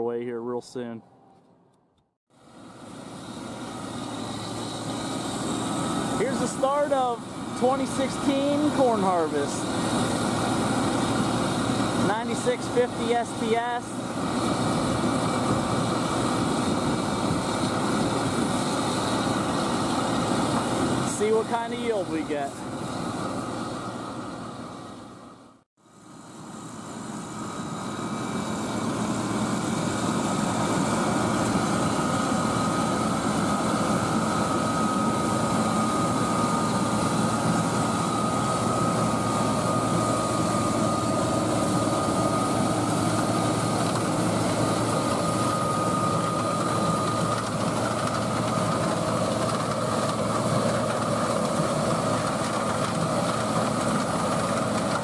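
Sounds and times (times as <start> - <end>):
combine harvester drone: 2.3 - 55.0
high machine whine: 2.3 - 55.0.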